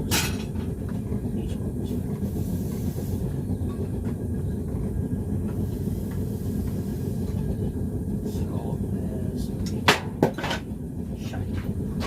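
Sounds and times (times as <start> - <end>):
forge burner roar: 0.0 - 12.0.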